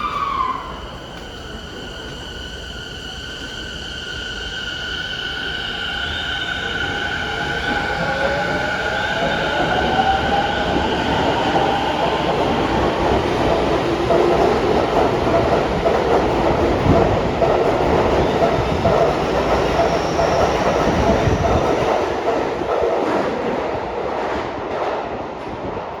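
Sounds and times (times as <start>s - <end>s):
subway car wheel rumble: 0.0s - 26.0s.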